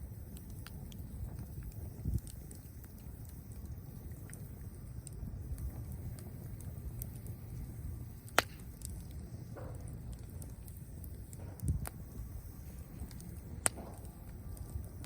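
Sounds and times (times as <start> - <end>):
bonfire rumble and crackles: 0.0 - 15.0
fire popping: 0.0 - 15.0.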